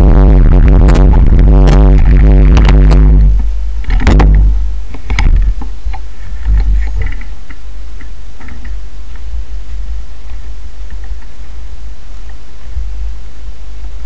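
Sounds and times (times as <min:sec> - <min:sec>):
electronic music: 0:00.0 - 0:14.0.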